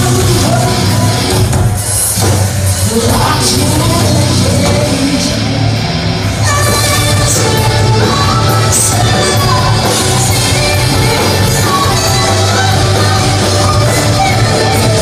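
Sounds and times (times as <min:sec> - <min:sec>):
woman singing lead vocal: 0:00.0 - 0:01.9, 0:02.8 - 0:05.6, 0:06.3 - 0:15.0
loud hard rock band: 0:00.0 - 0:15.0.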